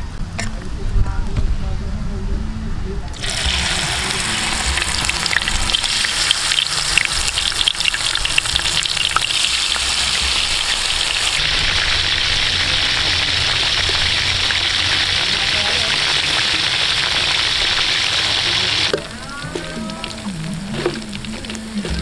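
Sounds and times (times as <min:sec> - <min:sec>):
food deep-frying in hot oil: 0:03.1 - 0:22.0.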